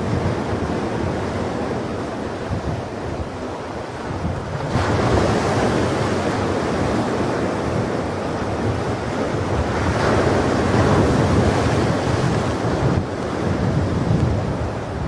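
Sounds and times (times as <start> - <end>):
wave breaking: 0.0 - 15.0
waves washing on shore: 0.0 - 15.0.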